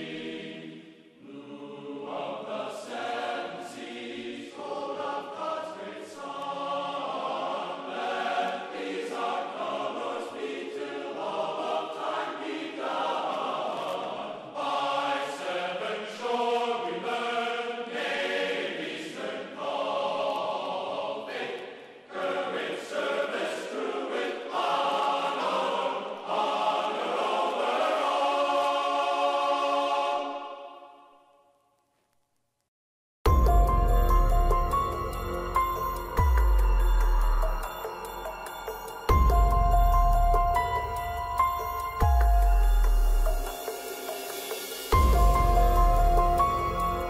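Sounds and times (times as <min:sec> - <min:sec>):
choir singing sustained chords: 0:00.0 - 0:31.4, 0:33.3 - 0:47.0.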